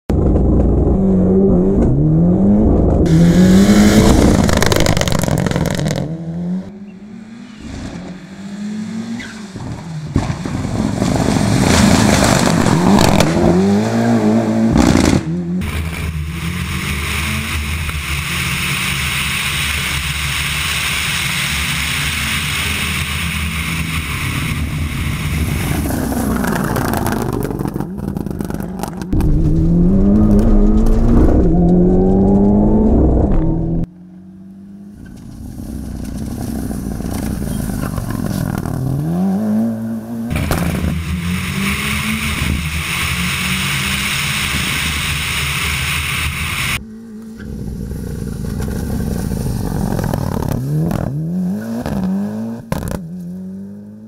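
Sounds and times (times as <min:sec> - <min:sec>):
race car engine at full throttle: 0:00.1 - 0:54.0.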